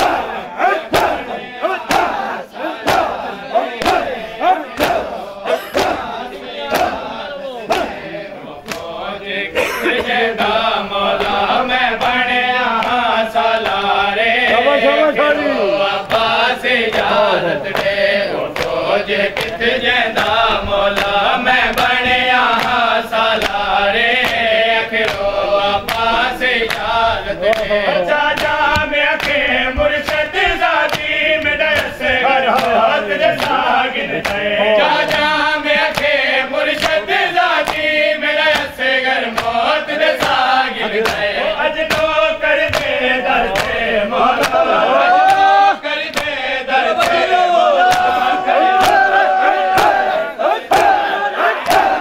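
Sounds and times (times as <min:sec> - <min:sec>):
men chanting in unison: 0:00.0 - 0:52.0
hands slapping chests: 0:00.9 - 0:04.1, 0:04.7 - 0:07.1, 0:07.7 - 0:08.0, 0:08.6 - 0:09.0, 0:09.6 - 0:13.9, 0:16.0 - 0:33.6, 0:34.2 - 0:50.1, 0:50.7 - 0:51.0, 0:51.6 - 0:52.0.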